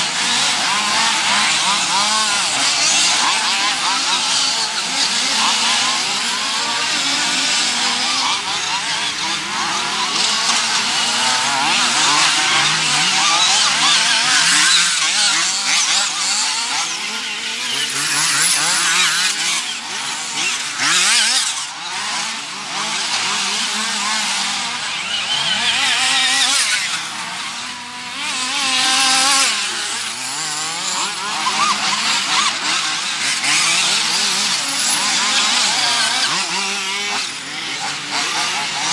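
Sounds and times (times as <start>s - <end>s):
rc buggy engines revving: 0.0s - 38.9s.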